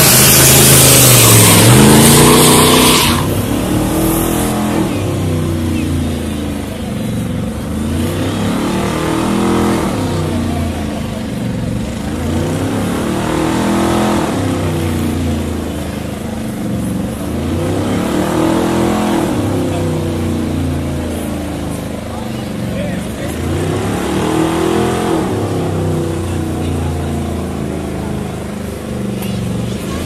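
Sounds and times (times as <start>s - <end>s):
car engine revving: 0.0s - 30.0s
tyres spinning on asphalt: 0.0s - 30.0s.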